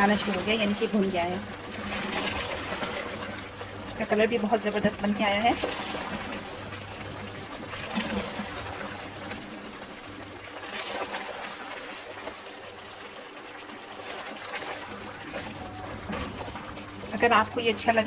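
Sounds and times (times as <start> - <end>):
curry sizzling and bubbling: 0.0 - 18.0
low steady hum: 0.0 - 18.0.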